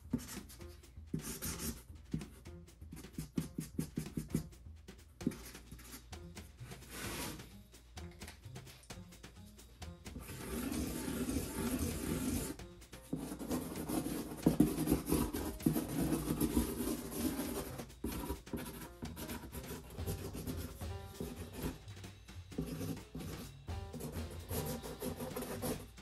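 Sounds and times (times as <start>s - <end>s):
marker scratching on cardboard: 0.0s - 7.6s, 10.1s - 21.8s, 22.6s - 26.0s.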